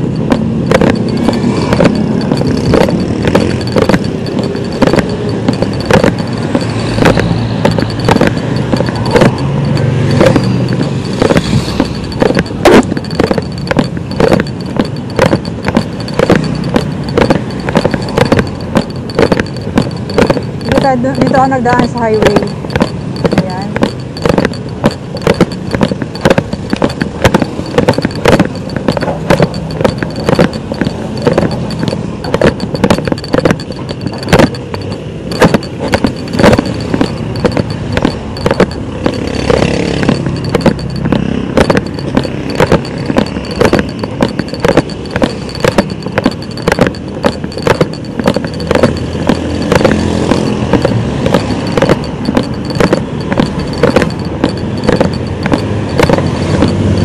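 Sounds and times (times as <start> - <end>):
passing traffic: 0.0 - 57.0
road noise rumble: 0.0 - 57.0.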